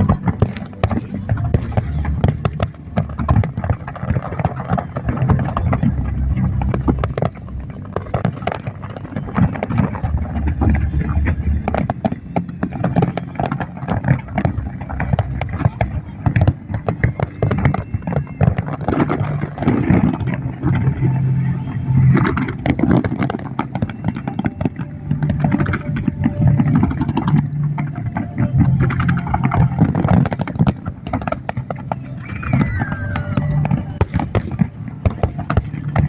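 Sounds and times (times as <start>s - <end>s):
people talking: 0.0s - 36.0s
steady low hum: 0.0s - 36.0s
fireworks bangs and crackles: 0.1s - 36.0s.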